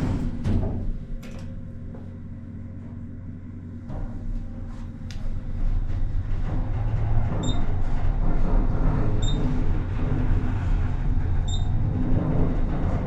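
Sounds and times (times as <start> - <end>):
elevator hum and rumble: 0.0 - 13.0.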